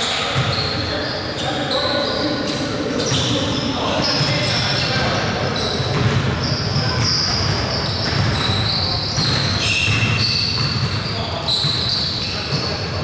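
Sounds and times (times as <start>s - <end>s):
basketball bouncing on court: 0.3s - 0.8s, 3.0s - 13.0s
high squeaks: 0.4s - 12.7s.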